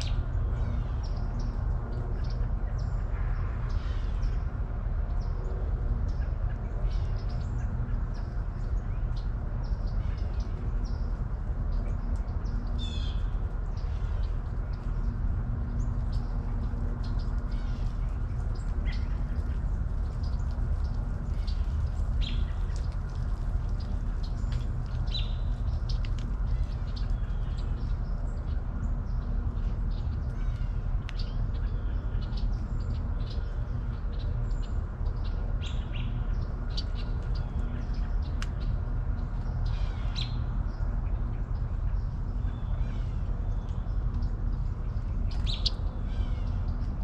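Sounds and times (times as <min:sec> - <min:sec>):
songbirds chirping: 0:00.0 - 0:47.0
steady low rumble: 0:00.0 - 0:47.0.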